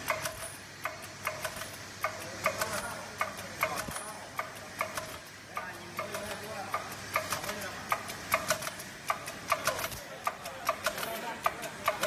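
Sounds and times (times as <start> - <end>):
machine clicking rhythmically: 0.0 - 12.0
steady mechanical hum: 0.0 - 12.0.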